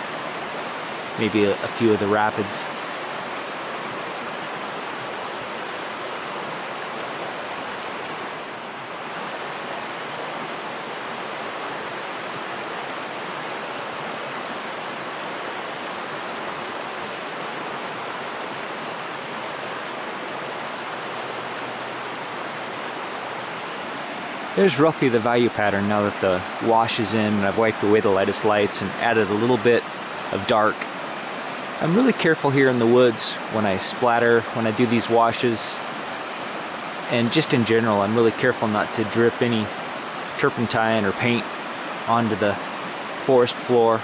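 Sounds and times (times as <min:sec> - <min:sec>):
river rushing over rapids: 0:00.0 - 0:44.0.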